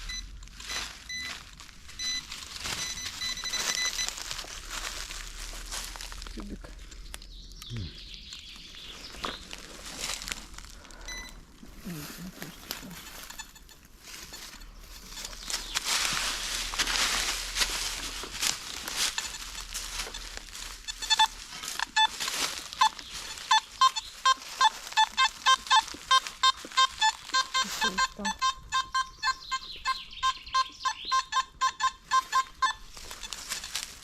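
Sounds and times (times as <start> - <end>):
metal detector beeping: 0.0 - 5.7, 10.9 - 34.0
rustling: 0.0 - 7.3, 8.6 - 34.0.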